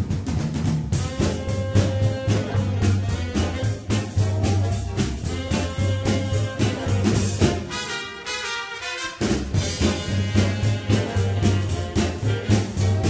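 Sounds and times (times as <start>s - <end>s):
instrumental music with brass and drums: 0.0s - 13.0s.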